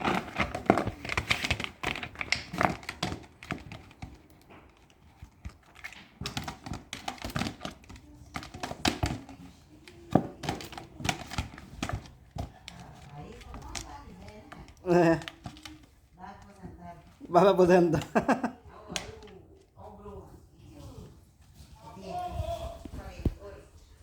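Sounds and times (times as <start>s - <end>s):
plastic bottle crinkling and knocking: 0.0s - 19.9s.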